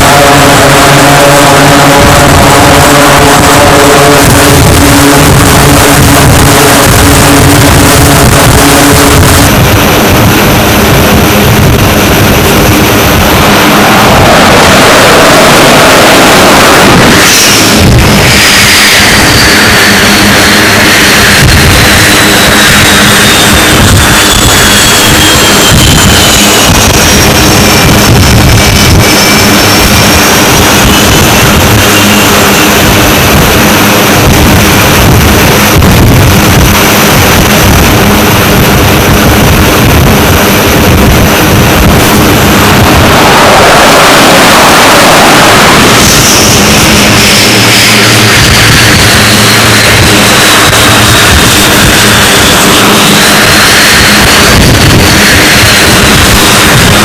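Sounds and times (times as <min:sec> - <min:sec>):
high whine falling in pitch: 0:00.0 - 0:57.0
jet engines running: 0:00.0 - 0:57.0.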